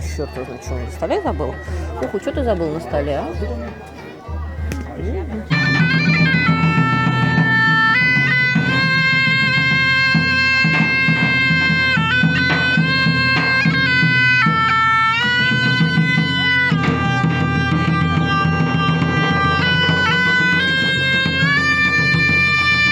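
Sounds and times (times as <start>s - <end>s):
bagpipes playing: 0.0s - 22.9s.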